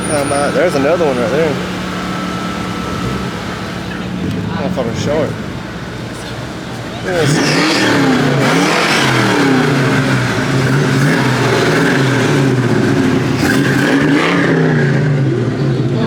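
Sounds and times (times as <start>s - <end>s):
loud car engine revving: 0.0s - 16.0s.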